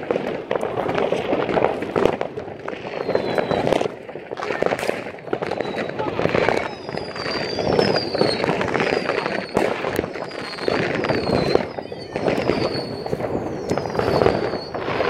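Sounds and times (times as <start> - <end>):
crackle of firecrackers: 0.0 - 15.0
rocket bursts: 0.0 - 15.0
falling firework whistles: 1.0 - 15.0.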